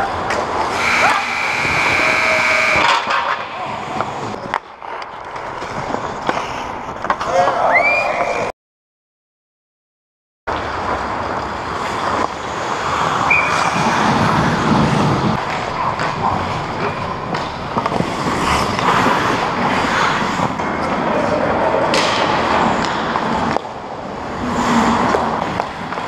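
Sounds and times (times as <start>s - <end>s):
hockey sticks and puck clacking: 0.0s - 7.7s, 10.6s - 26.0s
skate blades scraping ice: 0.2s - 7.6s, 10.9s - 26.0s.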